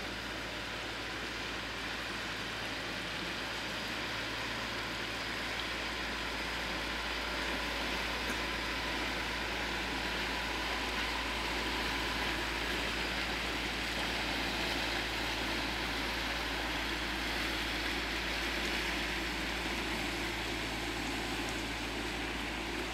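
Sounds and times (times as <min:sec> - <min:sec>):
ship diesel engine drone: 0:00.0 - 0:22.9.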